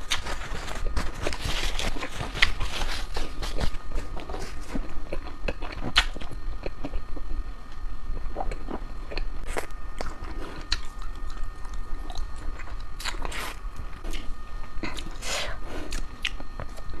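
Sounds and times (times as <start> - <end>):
crunchy biting and chewing: 0.0 - 7.4, 8.1 - 17.0.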